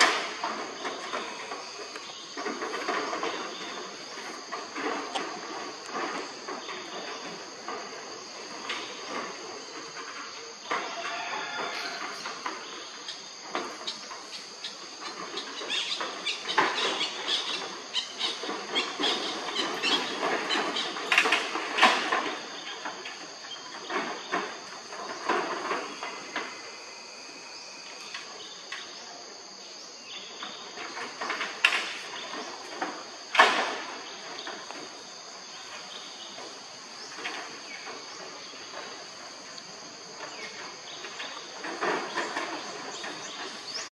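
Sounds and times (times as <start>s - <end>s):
scuffling on a metal roof: 0.0s - 29.0s, 29.7s - 43.9s
high insect drone: 0.0s - 43.9s.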